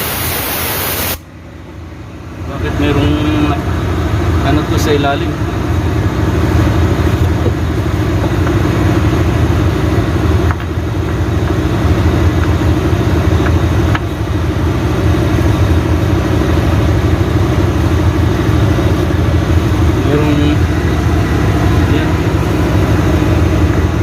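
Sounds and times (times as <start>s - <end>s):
engine idling: 1.2s - 24.0s.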